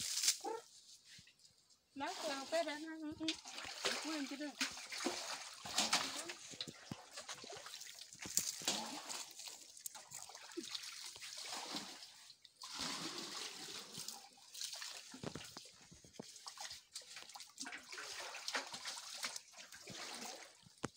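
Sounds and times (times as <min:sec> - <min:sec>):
water splashing and sloshing: 0:00.0 - 0:20.9
water trickling off basins: 0:01.4 - 0:20.9.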